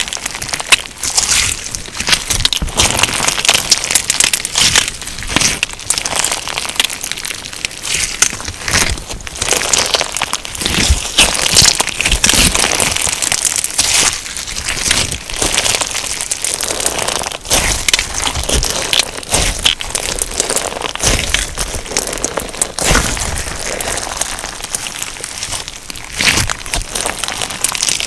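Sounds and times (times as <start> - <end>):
crunchy slime being squeezed: 0.0 - 28.0.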